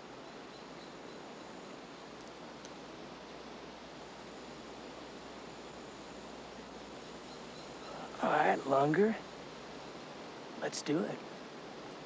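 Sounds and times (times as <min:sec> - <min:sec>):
wind through trees: 0:00.0 - 0:12.0.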